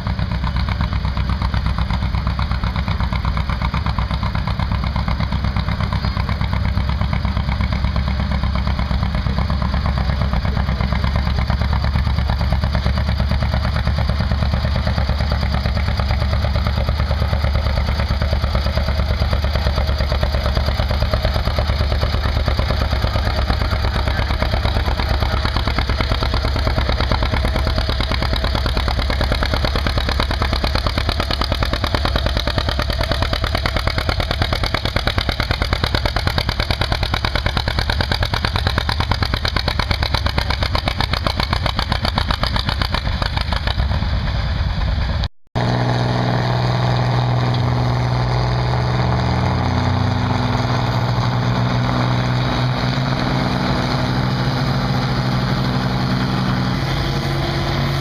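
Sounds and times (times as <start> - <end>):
tractor engine running loud: 0.0 - 58.0.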